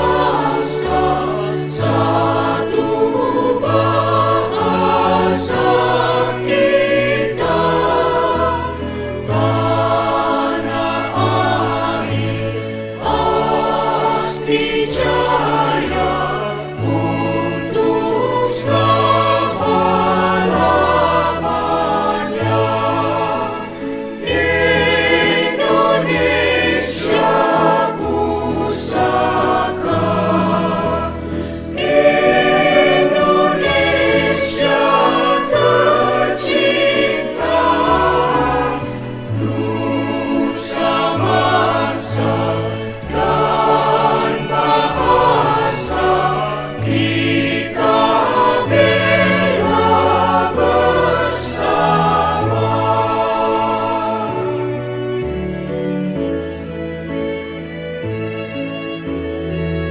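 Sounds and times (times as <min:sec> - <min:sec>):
choir singing in parts: 0:00.0 - 0:55.9.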